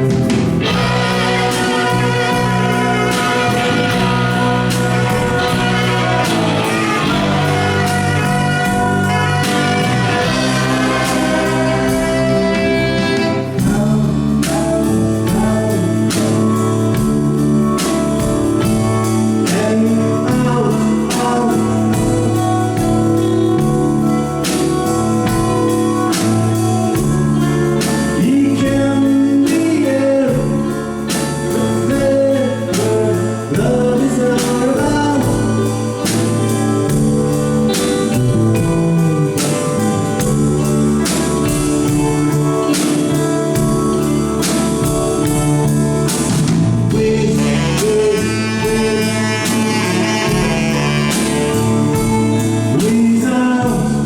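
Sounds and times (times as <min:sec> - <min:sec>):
lead vocal singing: 0:00.0 - 0:23.8, 0:24.4 - 0:54.0
live rock band playing: 0:00.0 - 0:54.0.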